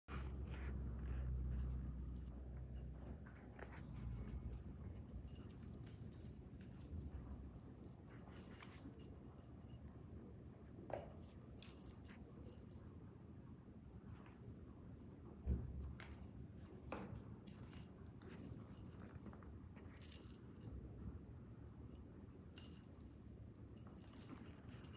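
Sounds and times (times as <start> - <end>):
small bell jingling: 1.5 - 9.9, 10.8 - 14.2, 14.9 - 20.8, 21.6 - 24.9.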